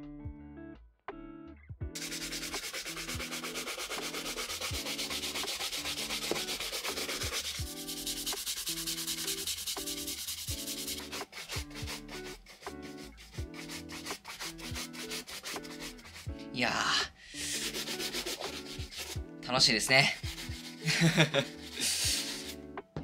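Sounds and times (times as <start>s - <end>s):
brush scrubbing leather shoe: 2.0s - 16.5s, 17.4s - 19.2s, 20.0s - 22.6s.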